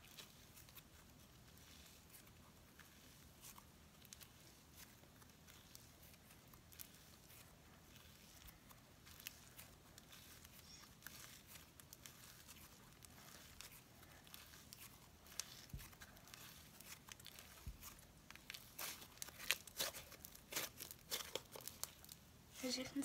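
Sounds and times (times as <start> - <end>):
slime crackling and popping: 0.0 - 22.2.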